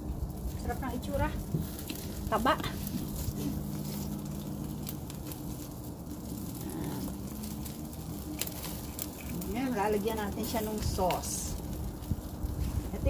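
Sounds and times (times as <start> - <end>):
crackles: 0.0 - 13.0
low rumble: 0.0 - 13.0
meat sizzling on a grill: 0.0 - 13.0.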